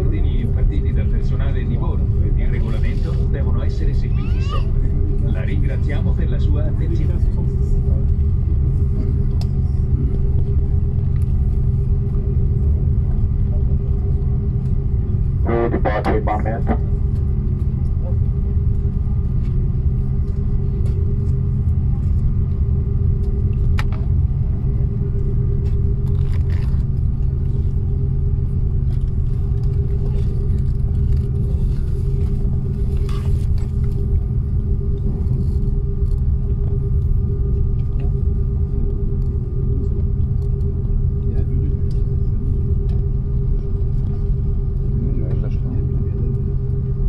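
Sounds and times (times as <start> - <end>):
airliner cabin engine rumble: 0.0 - 47.0
constant hum: 0.0 - 47.0.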